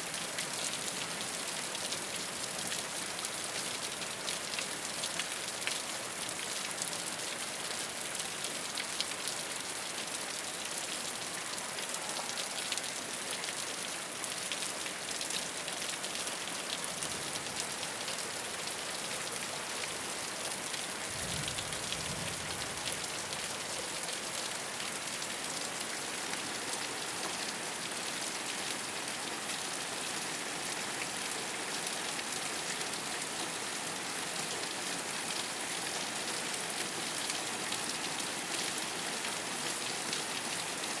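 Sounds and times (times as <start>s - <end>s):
rain falling on a rooftop: 0.0s - 41.0s.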